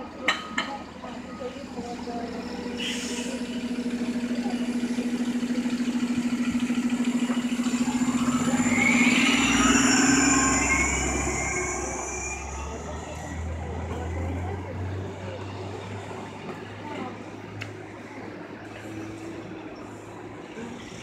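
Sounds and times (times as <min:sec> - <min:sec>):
bus diesel engine humming: 0:00.0 - 0:21.0.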